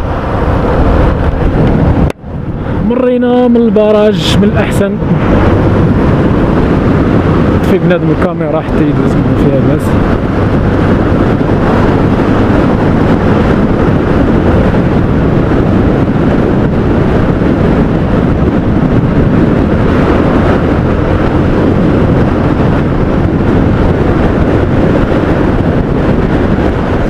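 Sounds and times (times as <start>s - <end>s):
motorcycle engine hum: 0.0s - 27.0s
wind buffeting microphone: 0.0s - 27.0s.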